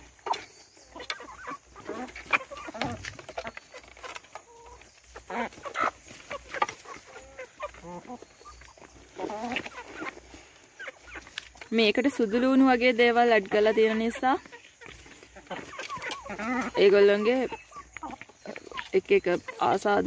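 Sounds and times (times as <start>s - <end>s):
beaks pecking trough: 0.0s - 20.0s
chickens clucking: 0.0s - 20.0s.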